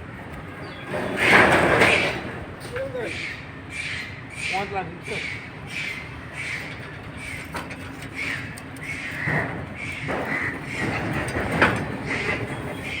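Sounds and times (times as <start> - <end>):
birds calling: 0.3 - 13.0.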